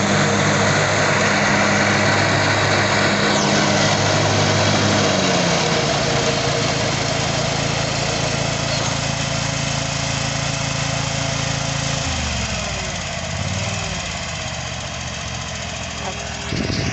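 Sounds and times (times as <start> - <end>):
mower engine running: 0.0 - 16.9.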